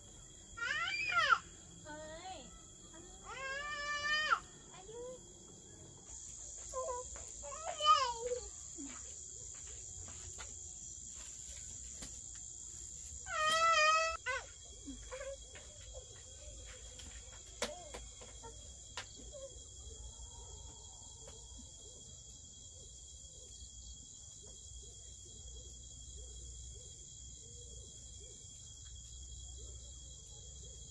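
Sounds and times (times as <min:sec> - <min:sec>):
crickets chirping chorus: 0:00.0 - 0:30.9.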